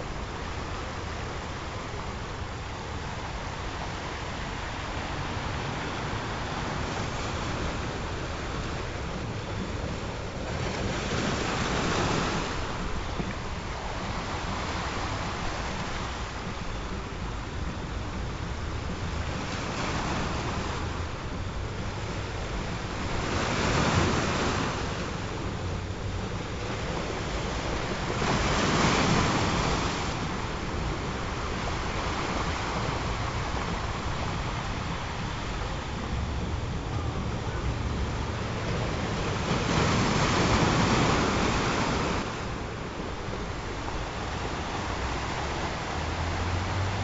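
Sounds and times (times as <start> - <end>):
ocean waves washing up: 0.0 - 47.0.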